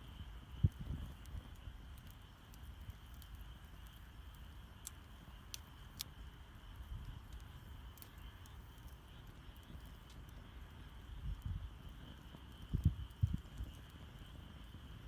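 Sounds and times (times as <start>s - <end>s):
campfire crackling and popping: 0.0s - 15.0s
low steady rumble: 0.0s - 15.0s.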